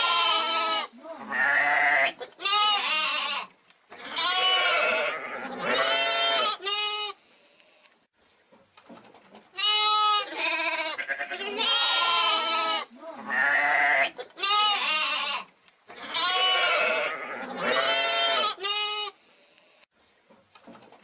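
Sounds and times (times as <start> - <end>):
young sheep bleating: 0.0 - 7.2, 9.6 - 19.2.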